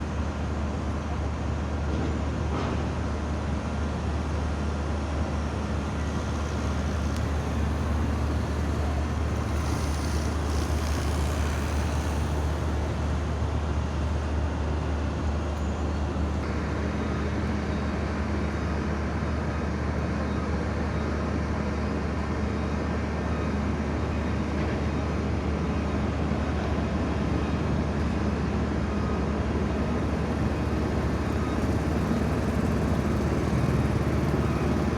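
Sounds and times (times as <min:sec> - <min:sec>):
excavator engines droning: 0:00.1 - 0:34.9.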